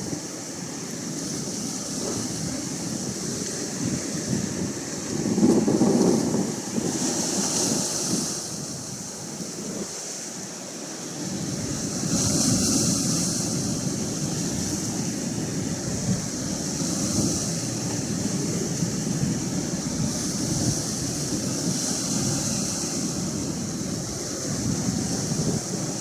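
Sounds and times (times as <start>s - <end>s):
ocean surf washing in: 0.0s - 26.0s
wind rumbling on microphone: 0.0s - 26.0s.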